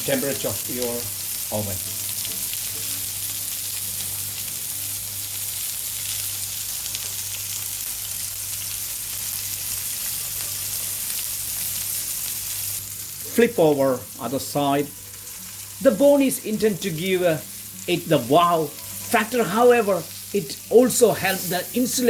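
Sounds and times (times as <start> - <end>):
steak sizzling on a hot griddle: 0.0 - 22.0.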